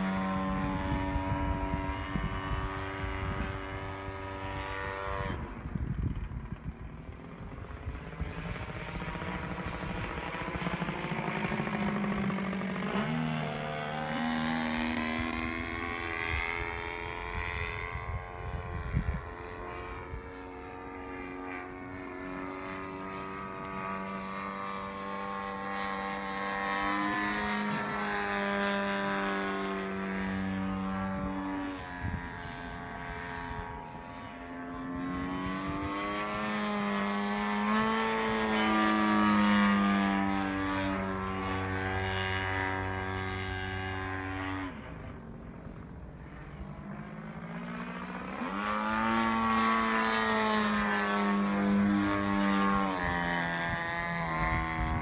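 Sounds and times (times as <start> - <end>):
propeller plane droning overhead: 0.0 - 55.0.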